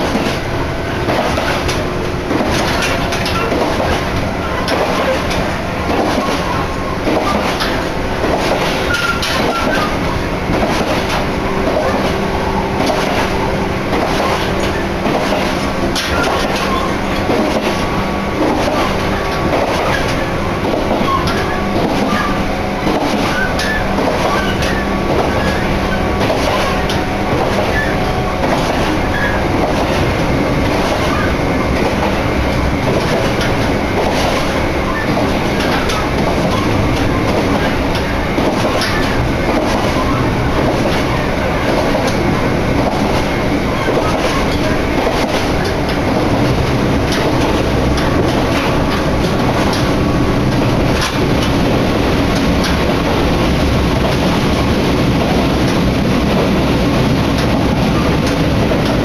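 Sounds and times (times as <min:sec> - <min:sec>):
wheels clicking over rail joints: 0:00.0 - 0:32.2, 0:32.8 - 0:59.0
train rumble and rush: 0:00.0 - 0:59.0.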